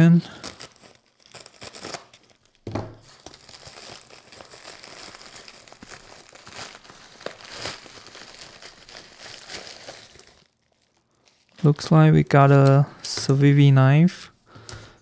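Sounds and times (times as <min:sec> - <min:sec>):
plastic mailer bag crinkling: 0:00.0 - 0:12.9.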